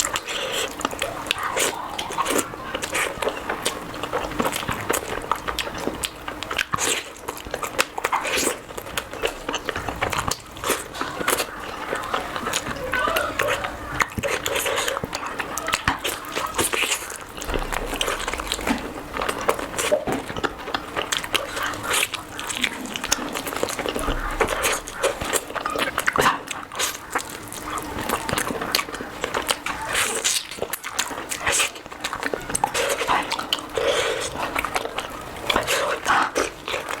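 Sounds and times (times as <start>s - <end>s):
wet chewing and lip-smacking: 0.0s - 37.0s.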